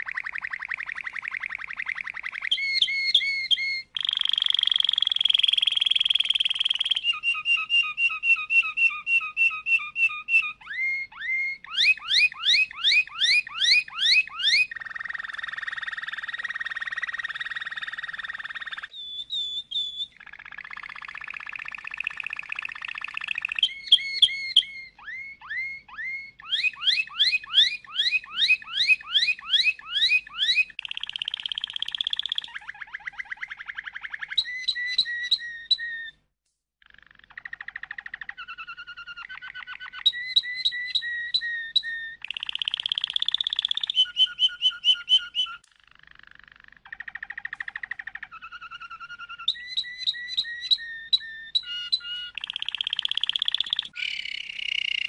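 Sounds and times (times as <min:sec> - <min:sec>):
canary singing: 0:00.0 - 0:36.2, 0:36.8 - 0:55.0.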